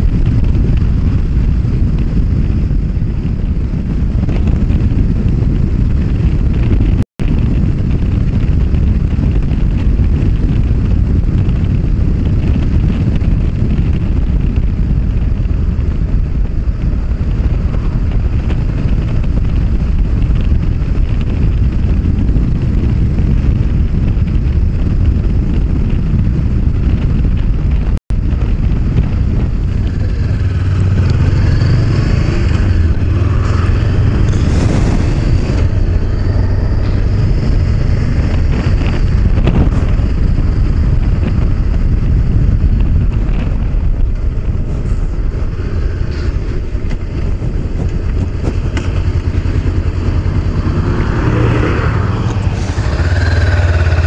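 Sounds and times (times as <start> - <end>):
low rumble of riding noise: 0.0 - 54.0
motorcycle engine running: 0.0 - 54.0.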